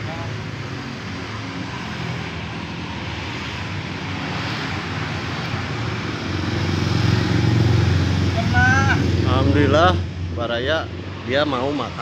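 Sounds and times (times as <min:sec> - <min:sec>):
motorcycle approaching: 0:00.0 - 0:12.0.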